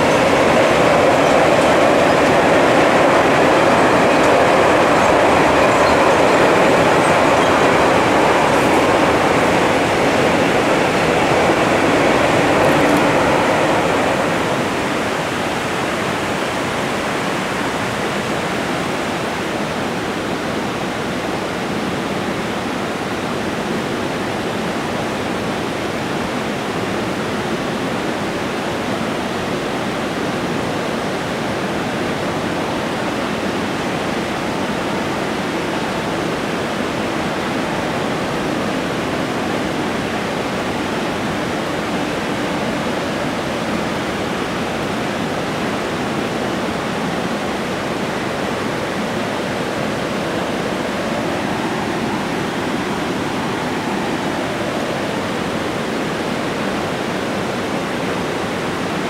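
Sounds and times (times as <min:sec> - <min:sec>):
freight train rumble: 0:00.0 - 0:59.0
river rushing in white water: 0:00.0 - 0:59.0.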